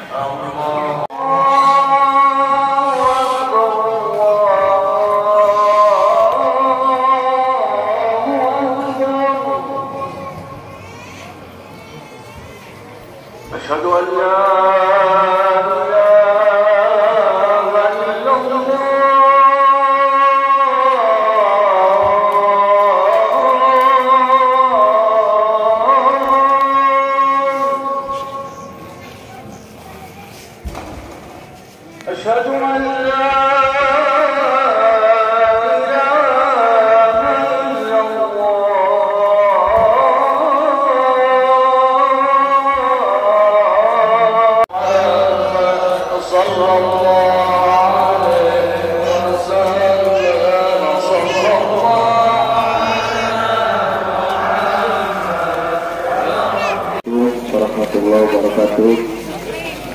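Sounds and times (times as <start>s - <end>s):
person chanting devotionally: 0.0s - 11.4s, 13.4s - 29.4s, 31.0s - 59.8s.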